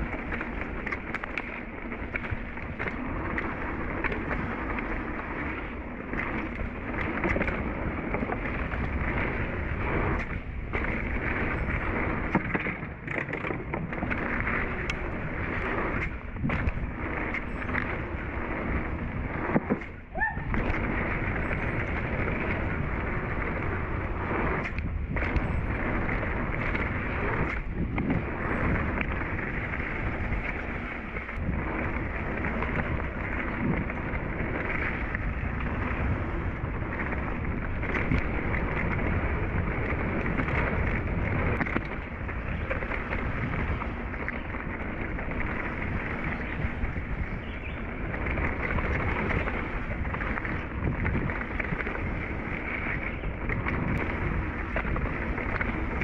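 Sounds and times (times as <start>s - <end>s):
bike tyres rolling over dirt: 0.0s - 56.0s
wind buffeting microphone: 0.0s - 56.0s.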